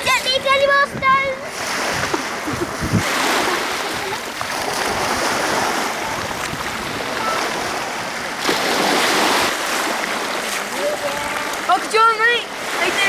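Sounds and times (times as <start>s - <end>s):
small waves lapping on a beach: 0.0s - 13.0s.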